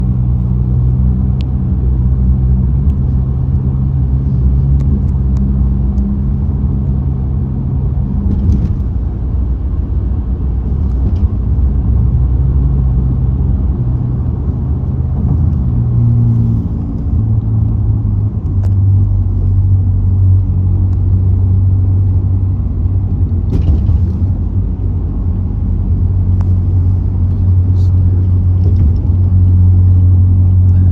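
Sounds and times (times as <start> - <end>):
car road and engine rumble: 0.0 - 30.9.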